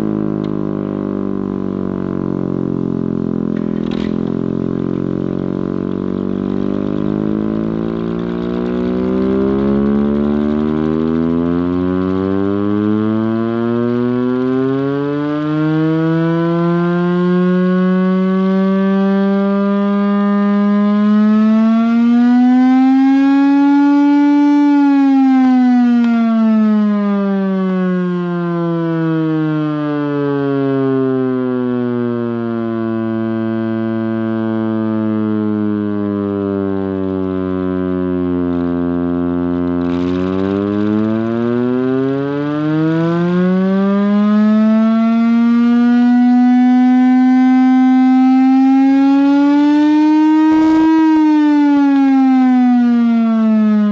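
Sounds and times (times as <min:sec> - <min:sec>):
air raid siren: 0:00.0 - 0:53.9.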